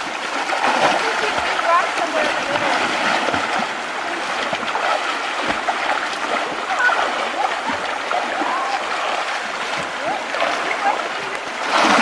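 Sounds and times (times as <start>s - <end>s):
river water rushing: 0.0s - 12.0s
water splashing: 0.0s - 12.0s.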